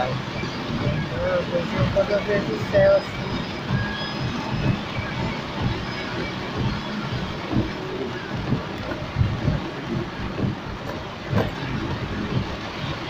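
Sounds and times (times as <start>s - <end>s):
low thumps: 0.0s - 13.0s
rain on car roof: 0.0s - 13.0s.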